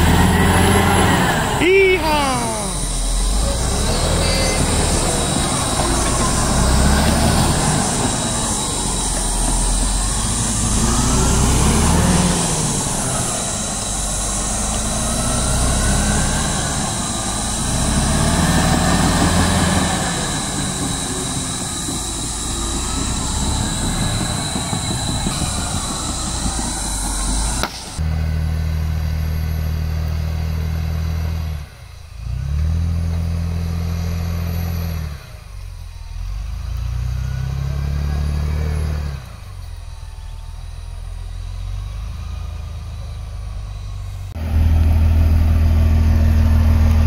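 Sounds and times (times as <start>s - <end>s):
bulldozer diesel engine under load: 0.0s - 47.0s.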